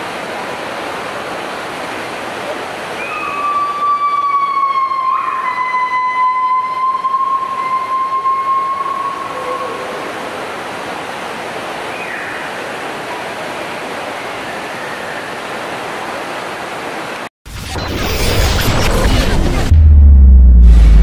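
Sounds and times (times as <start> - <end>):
waterfall rushing: 0.0 - 17.3.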